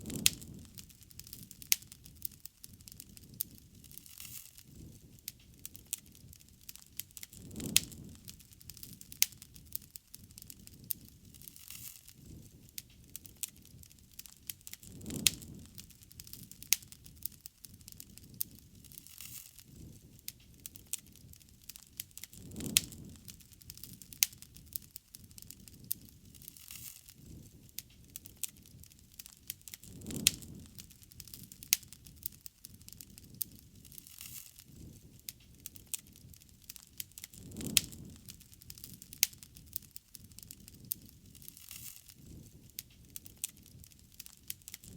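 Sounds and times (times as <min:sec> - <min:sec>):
bonfire crackling: 0:00.0 - 0:44.9
flames rushing: 0:00.0 - 0:44.9
sharp pops and snaps: 0:00.0 - 0:44.9.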